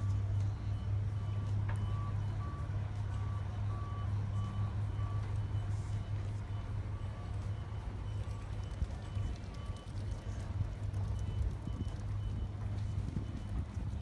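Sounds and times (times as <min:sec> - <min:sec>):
low engine hum: 0:00.0 - 0:14.0
short electronic beeps: 0:00.0 - 0:14.0.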